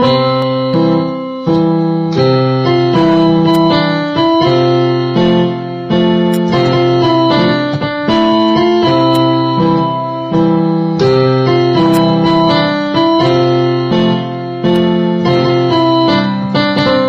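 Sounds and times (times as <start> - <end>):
slow instrumental music chords: 0.0 - 17.0.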